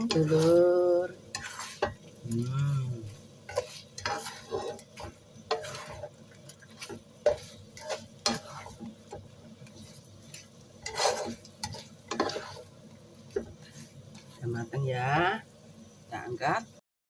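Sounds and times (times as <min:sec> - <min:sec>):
spatula scraping and knocking pan: 0:00.0 - 0:02.3, 0:03.1 - 0:14.8
faint sizzle: 0:00.0 - 0:16.8.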